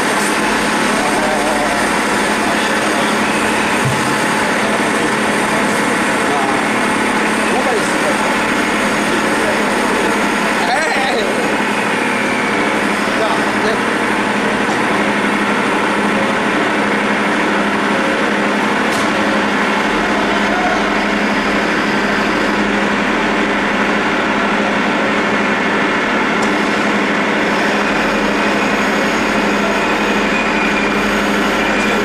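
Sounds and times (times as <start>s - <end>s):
lathe machine drone: 0.0s - 32.0s.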